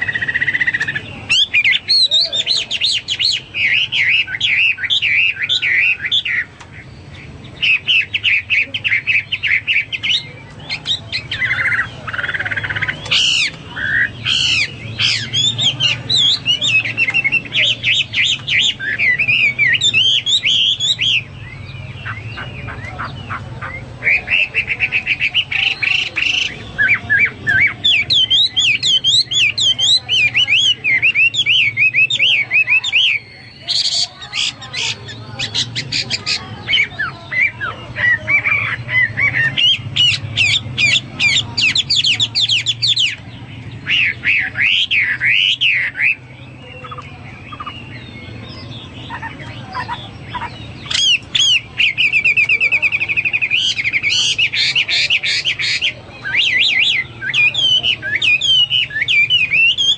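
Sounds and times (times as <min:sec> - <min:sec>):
bird singing whistled phrases and trills: 0:00.0 - 0:59.9.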